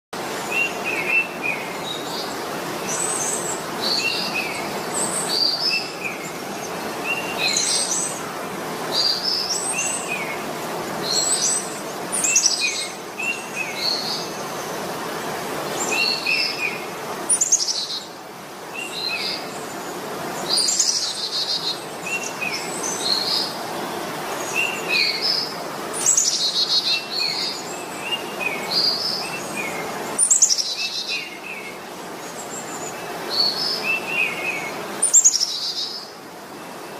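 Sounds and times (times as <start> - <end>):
steady background hiss: 0.2 - 36.9.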